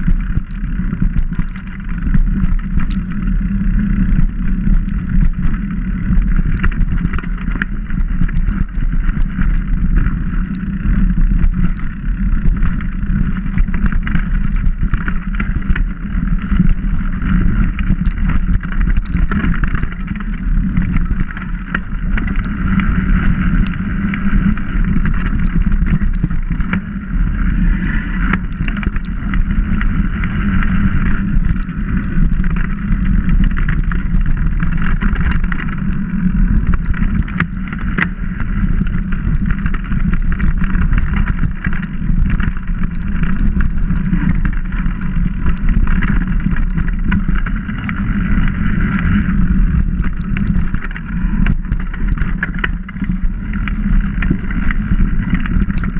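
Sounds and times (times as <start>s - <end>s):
bike clicks and rattles: 0.0s - 55.9s
bike tyres rumbling on dirt: 0.0s - 55.9s.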